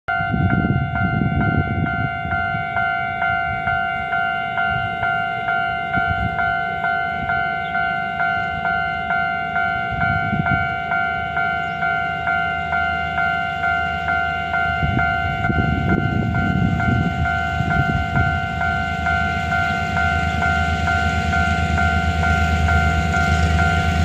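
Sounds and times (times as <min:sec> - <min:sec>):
level crossing warning bell ringing: 0:00.1 - 0:24.0.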